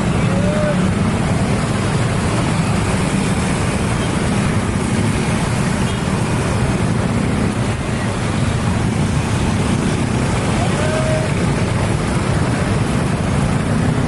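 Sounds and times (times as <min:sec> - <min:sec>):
passing vehicles rumbling: 0:00.0 - 0:14.0.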